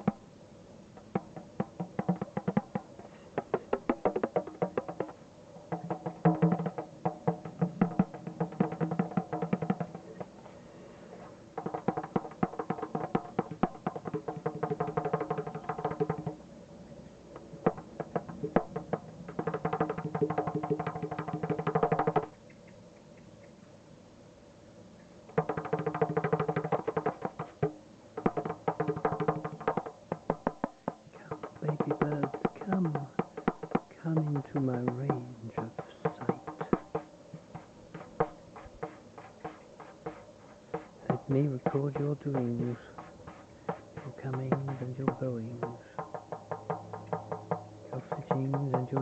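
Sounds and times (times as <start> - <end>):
hand drumming: 1.0 - 10.4, 11.6 - 16.4, 17.6 - 22.3, 25.3 - 49.0.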